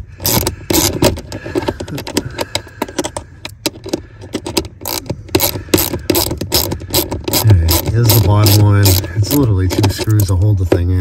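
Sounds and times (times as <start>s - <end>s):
hand ratchet clicking: 0.0s - 10.5s.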